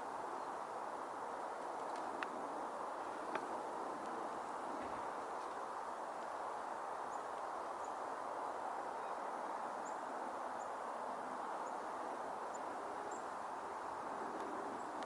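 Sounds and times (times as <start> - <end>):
snowstorm hiss: 0.0 - 15.0.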